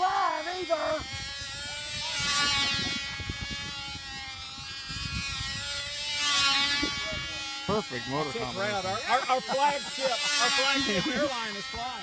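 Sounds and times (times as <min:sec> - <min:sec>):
model plane engine buzzing: 0:00.0 - 0:12.0.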